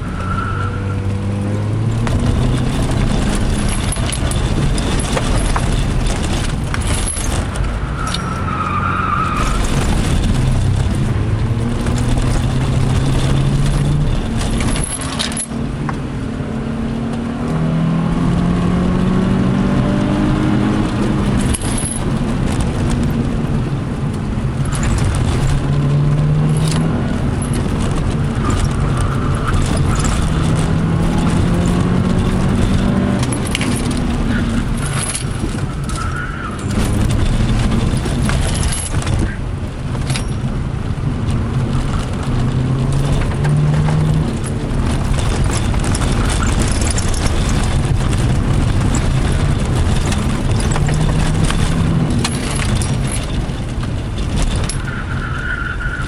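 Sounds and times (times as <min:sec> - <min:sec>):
car engine revving: 0:00.0 - 0:56.0
tyre and road noise: 0:00.0 - 0:56.0.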